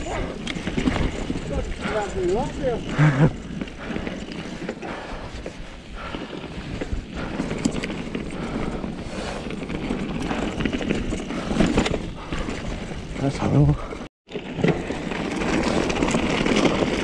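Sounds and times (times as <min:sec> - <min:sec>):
bike knocking and rattling: 0:00.0 - 0:17.0
bike tyres crunching over stones: 0:00.0 - 0:17.0.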